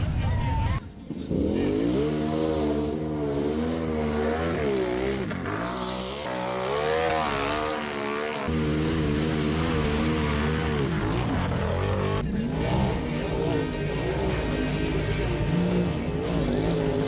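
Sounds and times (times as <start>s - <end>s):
off-road vehicle engine revving: 0.8s - 17.0s.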